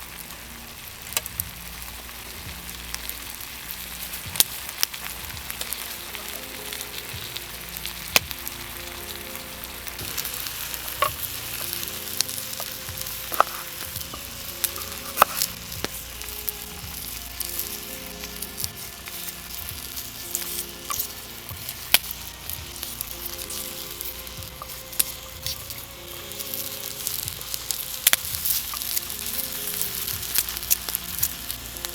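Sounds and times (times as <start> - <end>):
food sizzling as it fries: 0.0 - 31.9.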